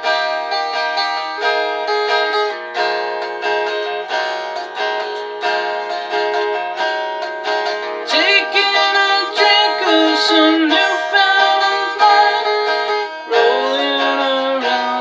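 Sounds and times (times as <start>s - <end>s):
guitar strumming chords: 0.0s - 15.0s.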